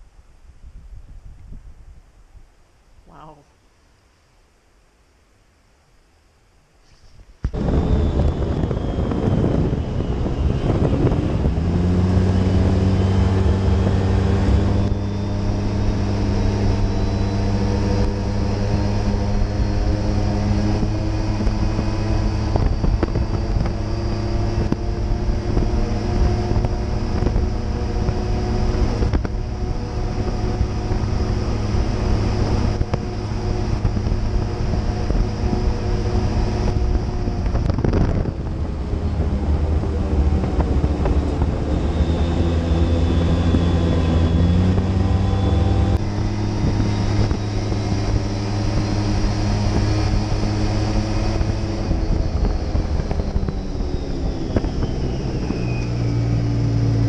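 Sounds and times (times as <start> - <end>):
wind on microphone: 0.0 - 3.4, 6.8 - 57.0
vehicle engine accelerating: 7.5 - 57.0.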